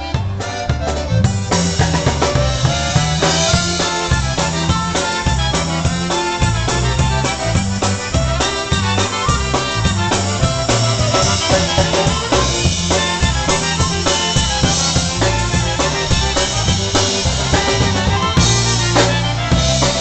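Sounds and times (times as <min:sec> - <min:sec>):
clarinet: 0:00.0 - 0:20.0
drum kit beat: 0:00.0 - 0:20.0.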